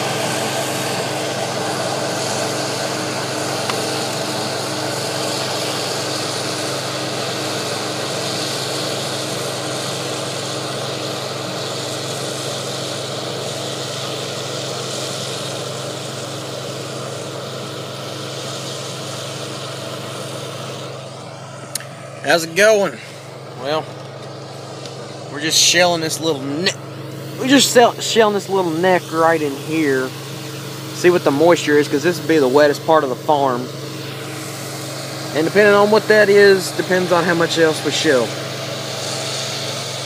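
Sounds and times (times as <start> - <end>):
farm machinery engine droning: 0.0 - 40.0.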